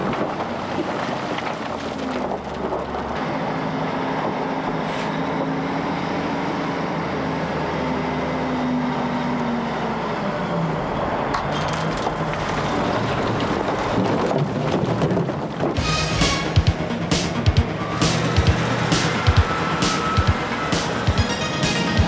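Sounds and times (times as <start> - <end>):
heavy machinery engine droning: 0.0 - 22.0.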